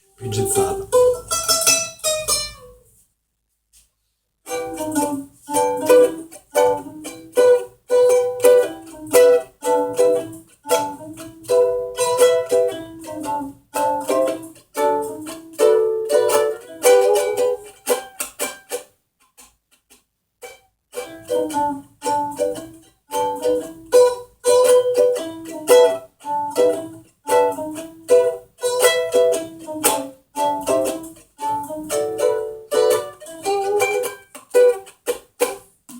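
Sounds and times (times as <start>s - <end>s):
plucked string instrument: 0.0s - 3.0s, 4.4s - 35.9s.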